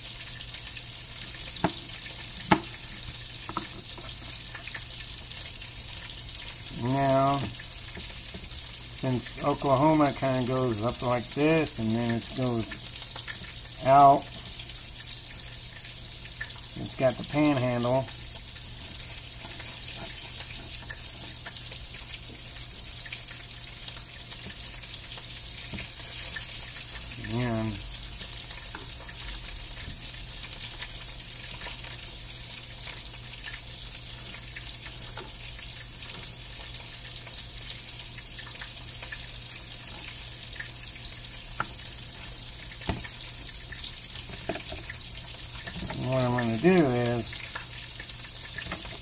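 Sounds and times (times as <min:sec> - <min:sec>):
meat sizzling in a pan: 0:00.0 - 0:49.0.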